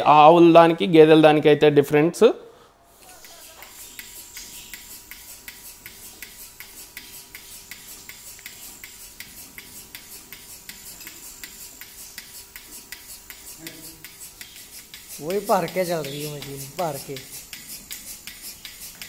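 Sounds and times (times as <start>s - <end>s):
milking machine pulsator clicking: 3.2s - 19.0s.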